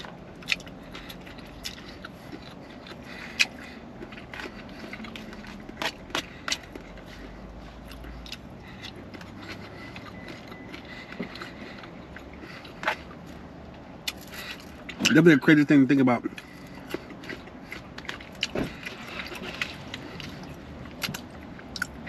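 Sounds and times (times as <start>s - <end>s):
person chewing: 0.0s - 15.3s, 16.2s - 22.0s.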